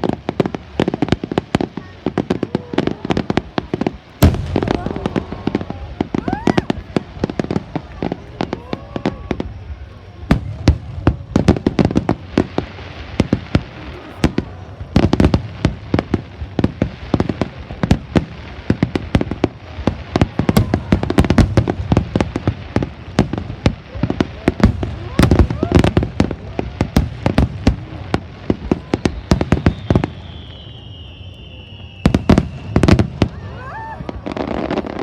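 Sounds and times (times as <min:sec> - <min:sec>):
fireworks crackling: 0:00.0 - 0:35.0.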